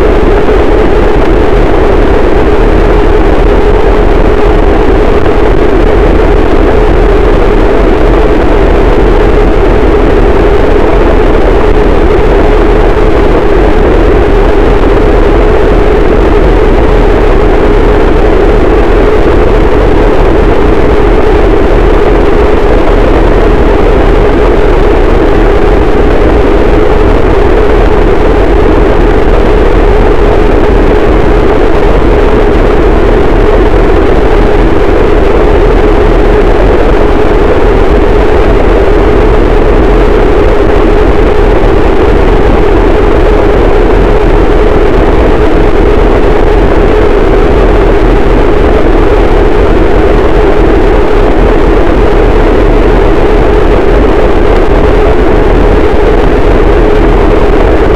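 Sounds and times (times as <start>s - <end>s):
dense distorted noise wall: 0.0s - 57.9s.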